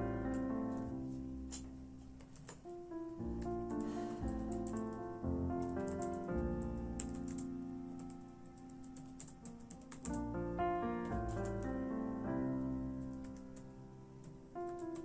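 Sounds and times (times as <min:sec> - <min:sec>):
soft melodic music: 0:00.0 - 0:15.0.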